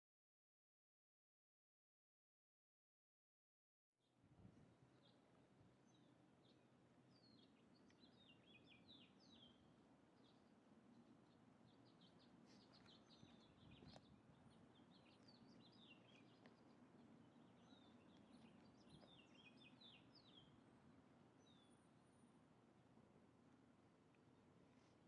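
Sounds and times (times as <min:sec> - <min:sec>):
faint birds chirping: 0:04.1 - 0:25.0.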